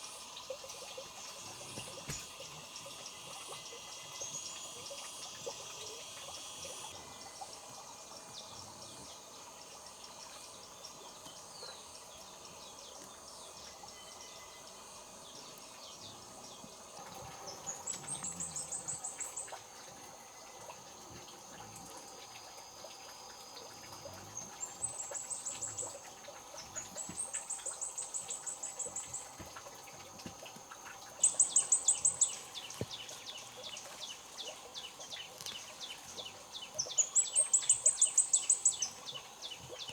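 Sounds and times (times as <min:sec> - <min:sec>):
high insect drone: 0:00.0 - 0:39.8.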